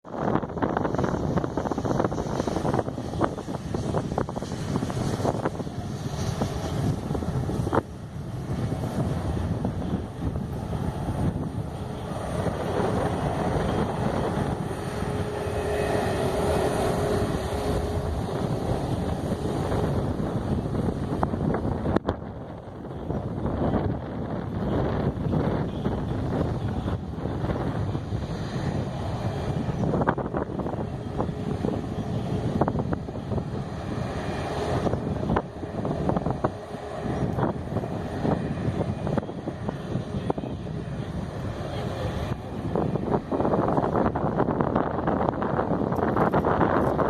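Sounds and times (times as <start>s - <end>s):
airplane engine and airflow rush: 0.0s - 47.0s
wind buffeting: 0.0s - 47.0s.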